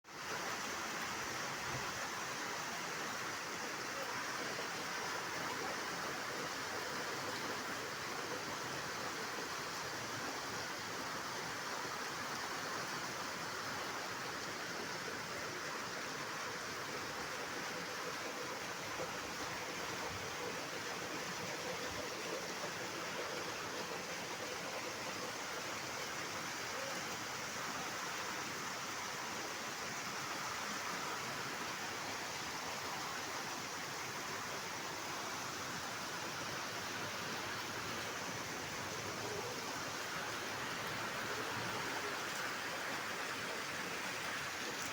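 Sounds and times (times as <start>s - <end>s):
running water rushing: 0.1s - 44.9s.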